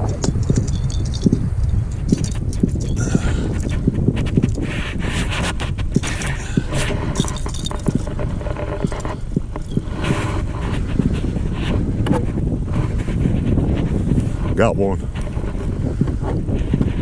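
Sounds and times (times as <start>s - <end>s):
small sharp knocks and scrapes: 0.0s - 17.0s
wind buffeting microphone: 0.0s - 17.0s.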